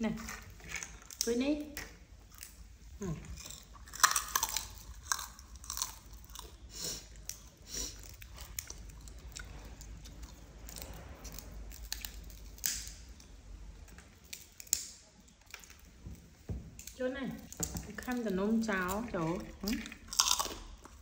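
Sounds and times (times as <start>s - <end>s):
monkeys chewing crunchy snacks: 0.1s - 1.4s, 2.2s - 15.9s, 16.8s - 21.0s.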